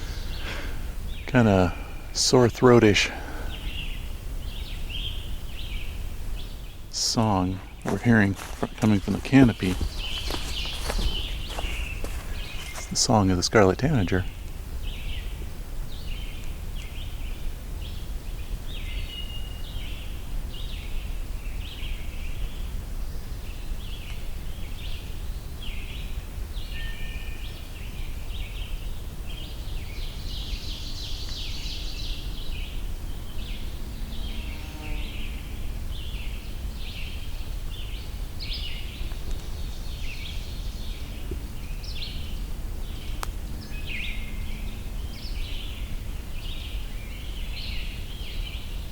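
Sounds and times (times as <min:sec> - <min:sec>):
songbirds singing: 0:00.0 - 0:48.9.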